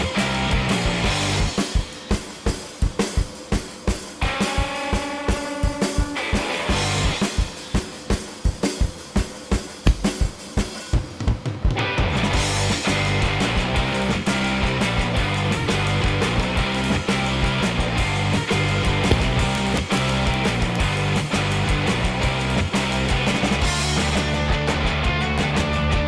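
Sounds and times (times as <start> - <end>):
rock band playing: 0.0 - 10.2, 10.8 - 26.0
rock drum break: 0.0 - 26.0.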